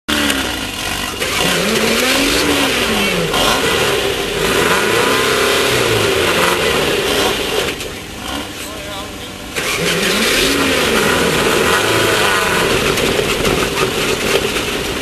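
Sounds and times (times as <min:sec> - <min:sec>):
race car engine revving: 0:00.1 - 0:15.0.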